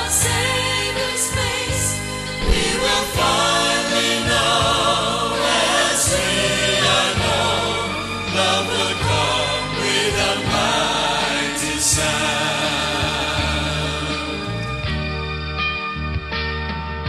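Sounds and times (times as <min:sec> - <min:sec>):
choir singing gospel song: 0:00.0 - 0:14.9.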